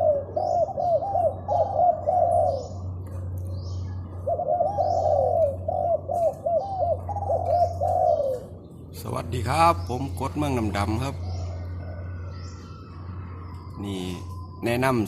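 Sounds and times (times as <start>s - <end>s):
dove cooing: 0.0s - 9.0s, 10.6s - 14.6s
small birds chirping: 0.0s - 15.0s
steady low hum: 0.0s - 15.0s.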